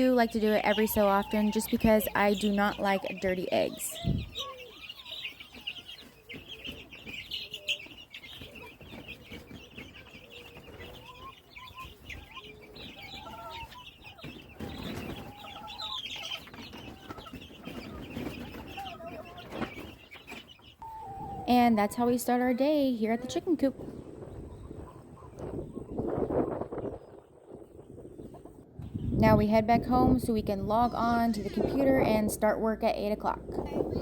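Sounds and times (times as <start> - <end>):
hens clucking: 0.0 - 29.0
chicks peeping: 0.0 - 34.0.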